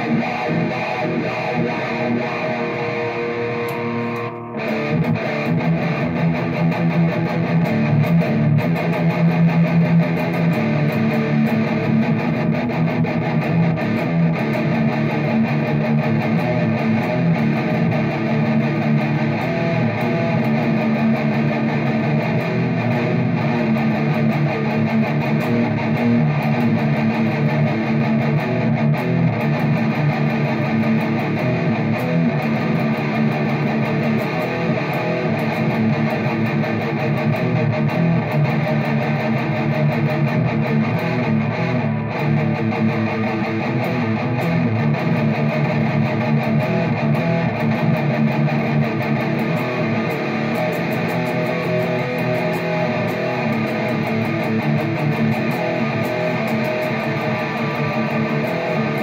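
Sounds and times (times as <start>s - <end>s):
electric guitar picked: 0.0s - 59.0s.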